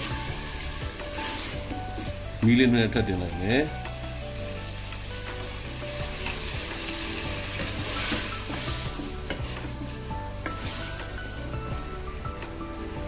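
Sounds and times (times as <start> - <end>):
wooden spatula stirring: 0.0 - 4.0, 4.8 - 13.0
meat sizzling in oil: 0.0 - 13.0.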